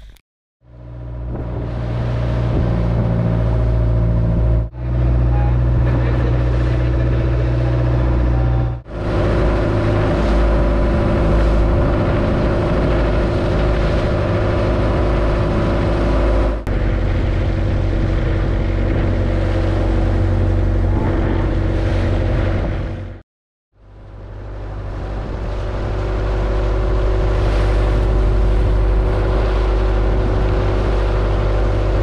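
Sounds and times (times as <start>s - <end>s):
boat engine running: 0.0s - 23.2s, 23.8s - 32.0s
water rushing past hull: 0.7s - 23.2s, 23.8s - 32.0s.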